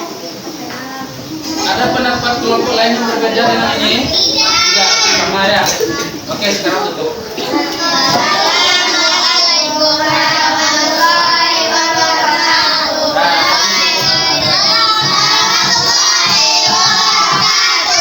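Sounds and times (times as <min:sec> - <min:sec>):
children singing together: 0:00.0 - 0:18.0.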